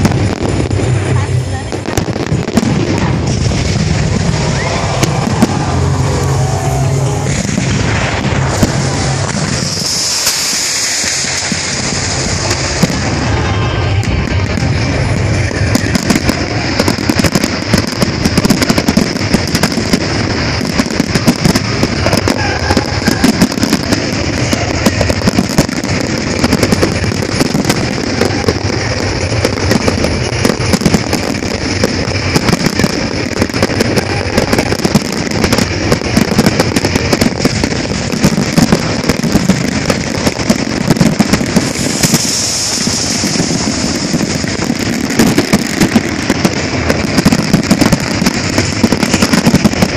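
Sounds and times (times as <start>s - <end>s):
firework hiss: 0.0s - 49.9s
fireworks bangs and crackle: 0.0s - 49.9s.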